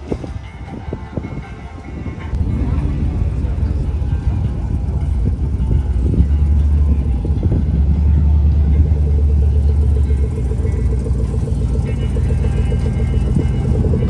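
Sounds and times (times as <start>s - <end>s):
vehicle engine deep rumble: 0.0s - 14.0s.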